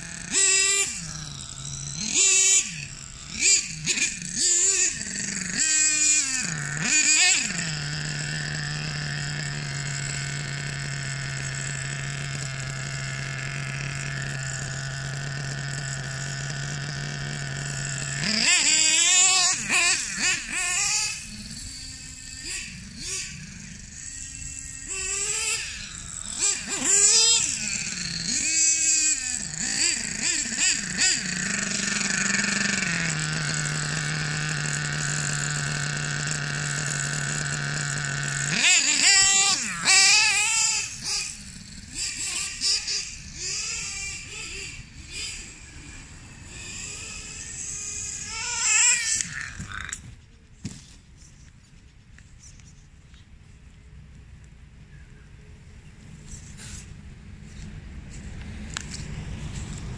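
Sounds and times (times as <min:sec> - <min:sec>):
model engine revving: 0:00.0 - 0:51.5.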